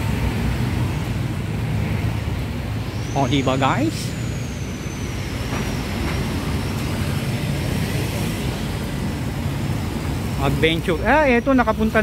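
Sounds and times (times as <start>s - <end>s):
cars passing on road: 0.0s - 12.0s
low rumble of engines and tyres: 0.0s - 12.0s.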